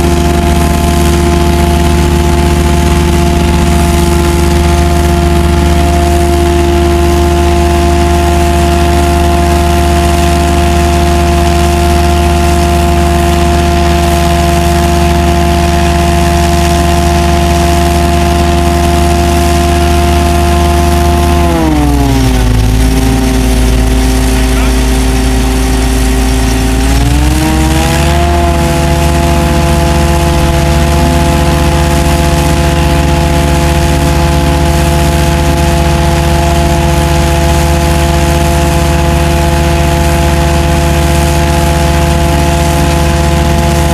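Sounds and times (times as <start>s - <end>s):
truck engine and pumps droning: 0.0s - 43.9s.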